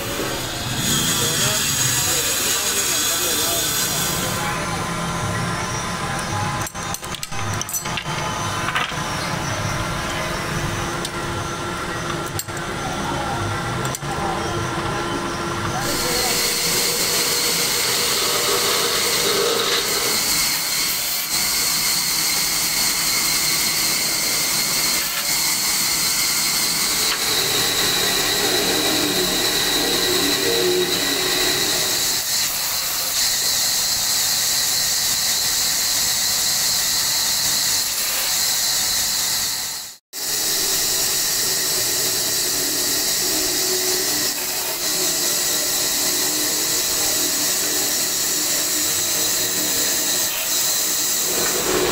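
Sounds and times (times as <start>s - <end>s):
bandsaw whining: 0.0s - 51.9s.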